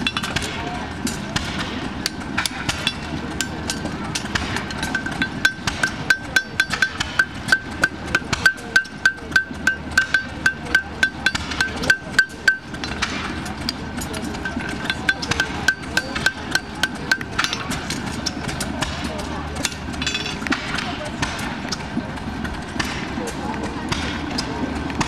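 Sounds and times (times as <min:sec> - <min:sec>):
hammer striking horseshoe on anvil: 0:00.0 - 0:21.8.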